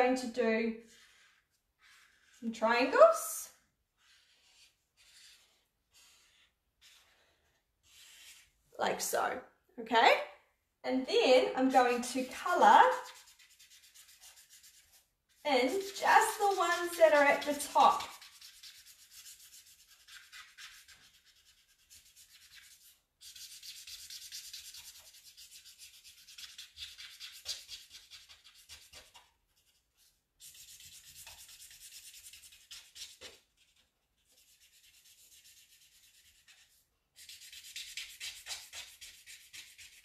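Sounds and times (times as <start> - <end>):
marker rubbing on paper: 0.2 - 8.6, 11.6 - 40.0.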